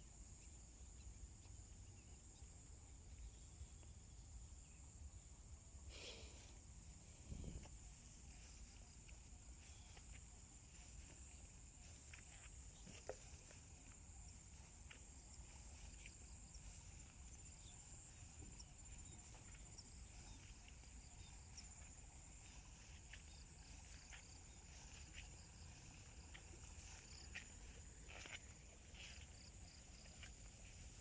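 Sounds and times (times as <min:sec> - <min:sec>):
insects trilling: 0:00.2 - 0:31.0.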